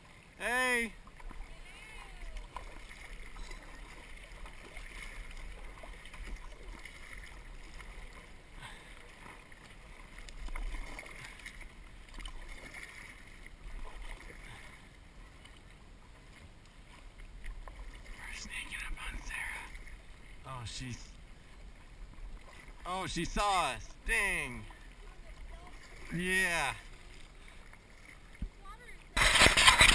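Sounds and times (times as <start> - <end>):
water lapping around a canoe: 0.0 - 29.9.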